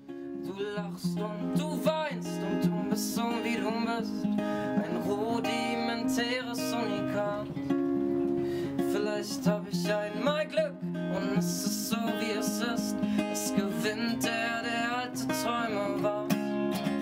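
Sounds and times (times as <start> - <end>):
acoustic guitar strumming: 0.0 - 17.0
man singing: 0.4 - 17.0.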